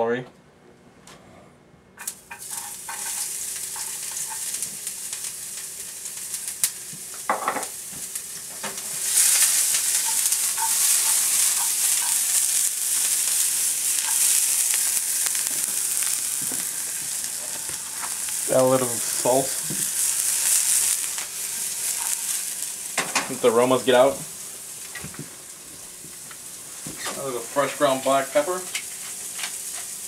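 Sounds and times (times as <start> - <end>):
vegetables sizzling in oil: 2.0 - 30.0.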